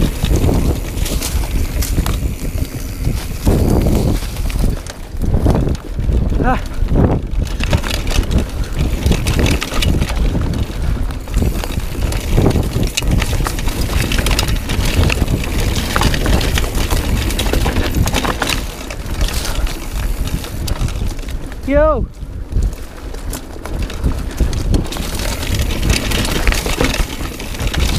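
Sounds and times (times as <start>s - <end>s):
bike clicks and rattles: 0.0s - 27.9s
tyres rolling over gravel: 0.0s - 27.9s
wind buffeting microphone: 0.0s - 27.9s.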